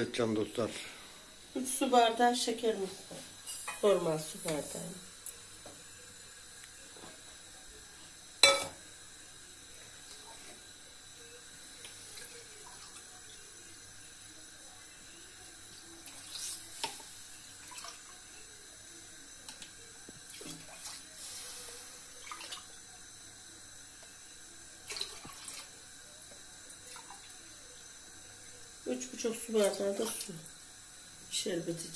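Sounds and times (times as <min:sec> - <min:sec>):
kitchen tap running: 0:01.6 - 0:07.3, 0:08.2 - 0:23.2, 0:23.8 - 0:31.9.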